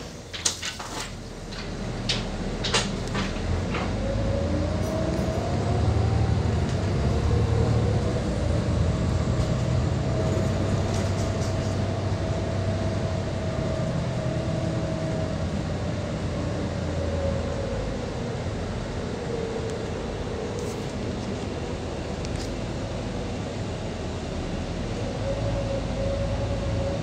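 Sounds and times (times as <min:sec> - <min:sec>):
bus engine hum with whine: 0:00.0 - 0:27.0.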